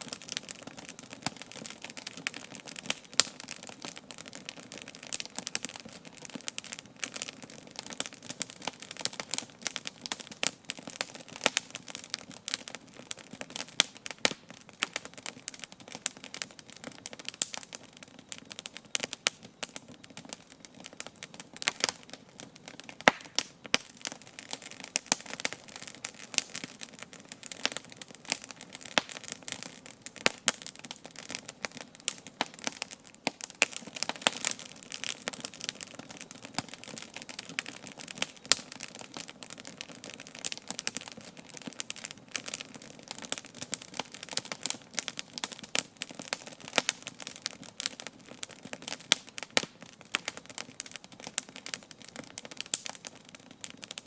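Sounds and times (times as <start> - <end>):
wood campfire crackling: 0.0 - 54.0.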